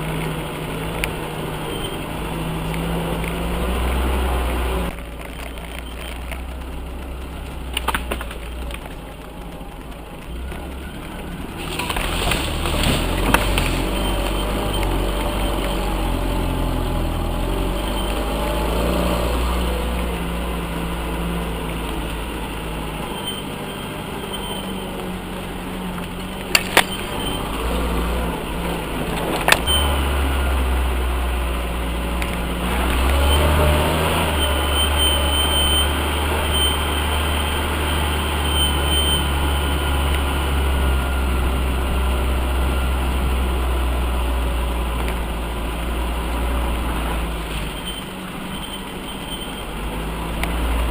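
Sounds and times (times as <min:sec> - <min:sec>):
off-road vehicle engine under load: 0:00.0 - 0:50.9.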